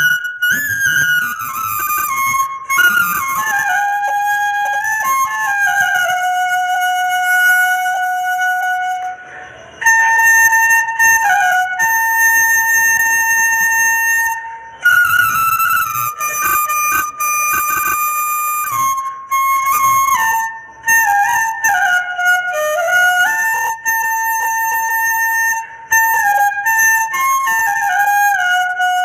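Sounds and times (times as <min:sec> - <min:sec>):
bamboo flute melody: 0:00.0 - 0:29.0.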